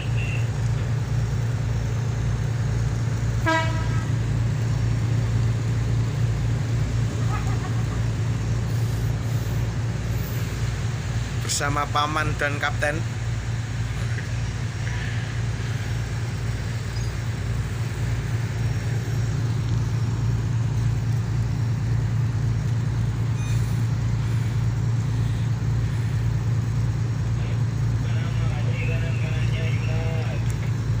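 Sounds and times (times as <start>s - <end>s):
boat diesel engine droning: 0.0s - 31.0s.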